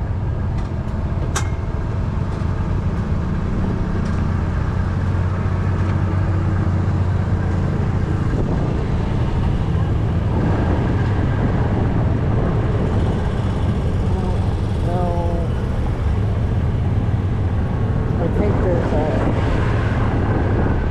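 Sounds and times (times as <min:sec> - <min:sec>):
tractor engine running: 0:00.0 - 0:19.3.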